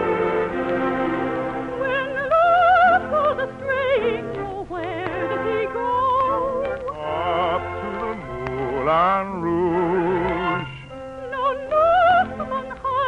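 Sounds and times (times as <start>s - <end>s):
orchestral accompaniment: 0.0s - 13.0s
operatic singing voice: 1.6s - 13.0s.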